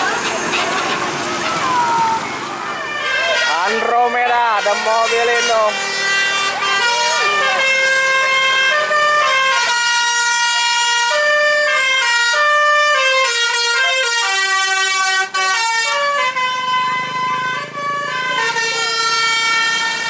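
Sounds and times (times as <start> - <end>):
multi-tone bus horn melody: 0.0 - 20.0.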